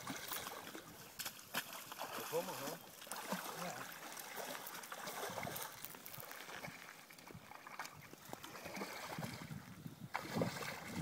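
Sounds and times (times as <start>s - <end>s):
water lapping: 0.0s - 11.0s.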